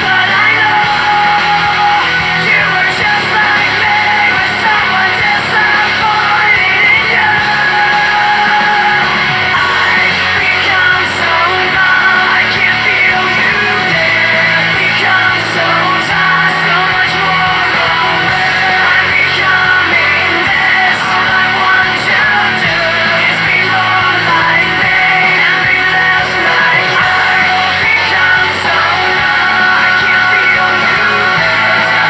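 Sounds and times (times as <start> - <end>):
electric guitar: 0.0 - 32.0
loud rock music: 0.0 - 32.0
vocals: 0.0 - 32.0.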